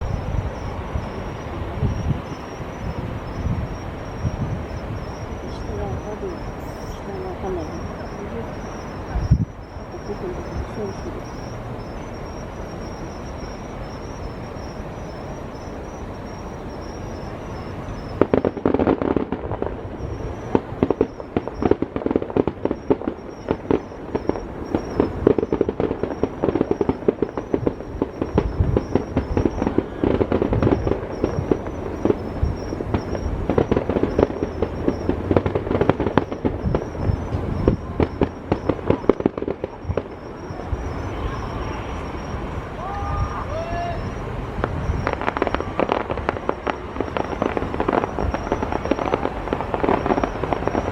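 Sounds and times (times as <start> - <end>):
firework bangs and crackles: 0.0 - 50.9
insects chirping: 0.0 - 50.9.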